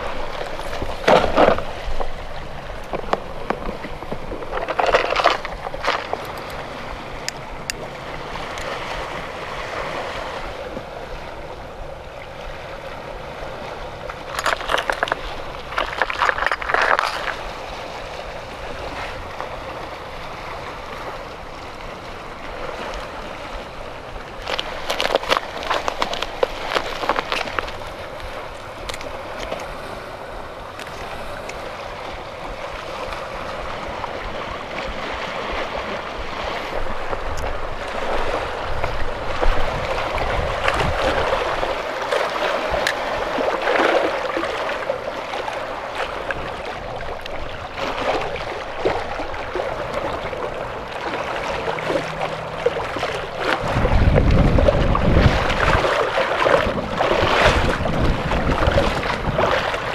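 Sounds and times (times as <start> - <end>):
wind buffeting microphone: 0.0 - 44.6, 46.0 - 59.9
waves lapping against rocks: 0.0 - 59.9.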